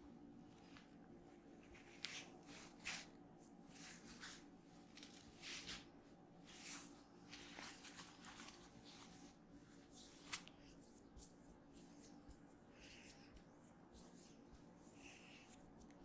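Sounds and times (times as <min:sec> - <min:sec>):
hands rubbing oiled skin: 0:01.6 - 0:16.0.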